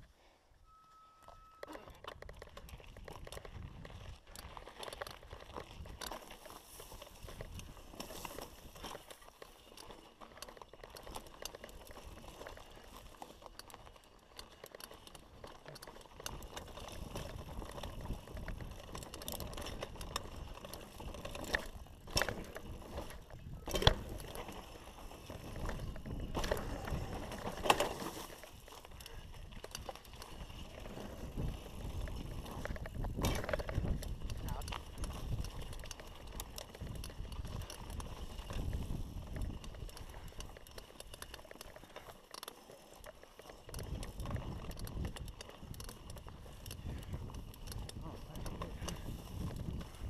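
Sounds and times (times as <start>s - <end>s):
mountain bike tyre and drivetrain noise: 0.0s - 50.0s
bike rattling: 1.7s - 50.0s.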